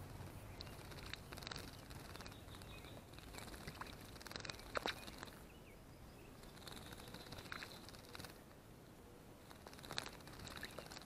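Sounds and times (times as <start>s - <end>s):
birds splashing in water: 0.0s - 5.4s, 6.4s - 8.4s, 9.5s - 11.0s.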